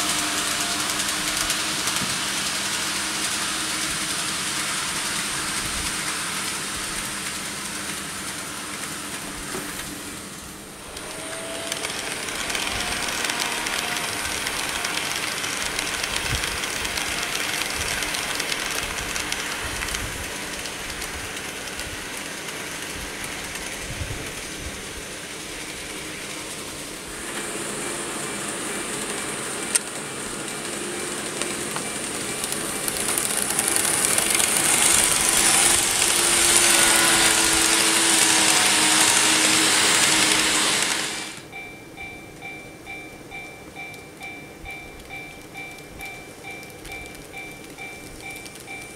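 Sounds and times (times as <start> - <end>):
model train whirring: 0.0 - 48.9.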